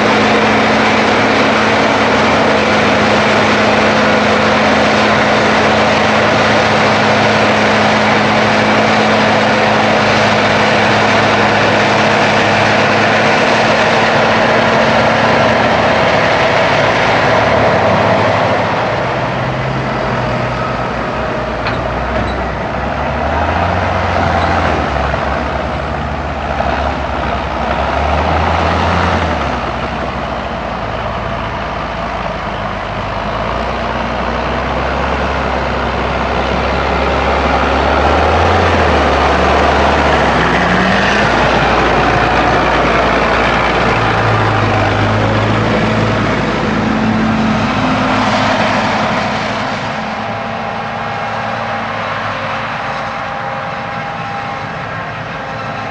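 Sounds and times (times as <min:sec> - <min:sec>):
diesel farm machinery running: 0:00.0 - 0:55.9.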